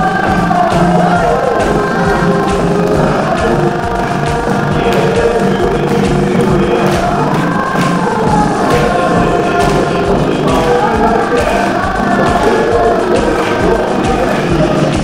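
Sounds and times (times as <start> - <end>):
loud dance music with steady beat: 0.0 - 15.0
person singing: 0.0 - 15.0.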